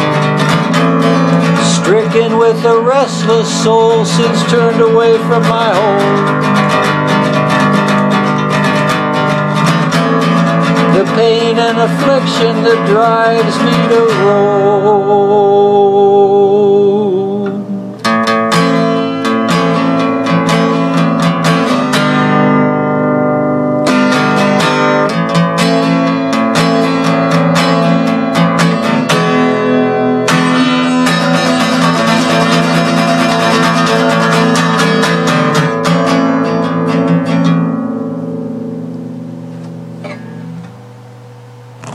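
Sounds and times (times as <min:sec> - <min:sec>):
acoustic guitar strumming: 0:00.0 - 0:41.9.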